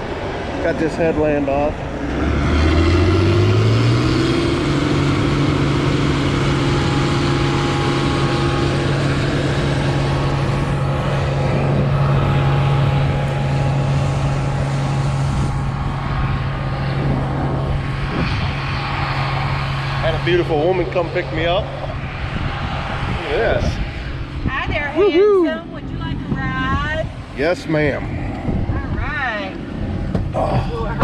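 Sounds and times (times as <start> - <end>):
engine running at high speed: 0.0 - 31.0.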